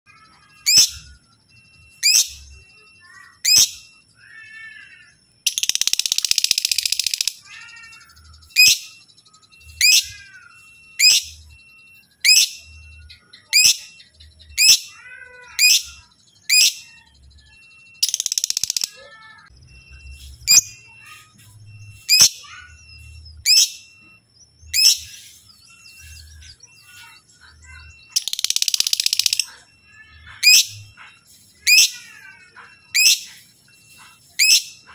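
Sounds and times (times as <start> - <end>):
lovebird chattering trill: 0.1 - 1.2, 1.9 - 11.5, 12.2 - 34.9
lovebird chirping: 0.1 - 34.9.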